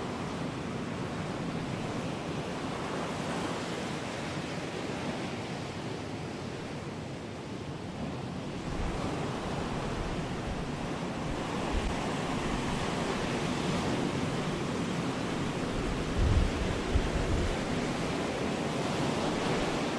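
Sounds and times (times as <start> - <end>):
ocean surf breaking: 0.0 - 19.9.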